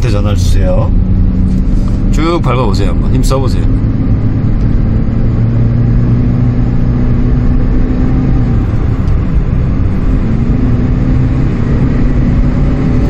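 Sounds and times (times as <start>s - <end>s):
car engine under hard throttle: 0.0s - 13.0s
road noise: 0.0s - 13.0s.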